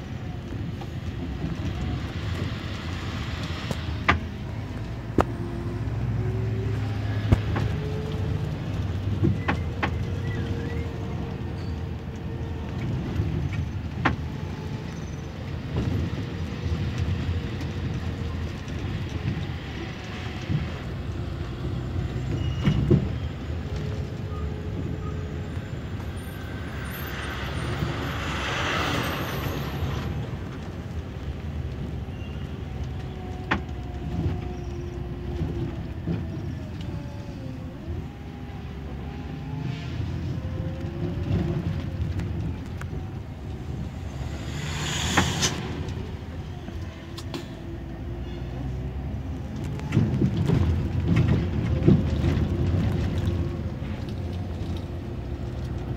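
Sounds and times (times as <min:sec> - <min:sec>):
engine and road rumble: 0:00.0 - 0:55.9
engine whine: 0:00.0 - 0:55.9.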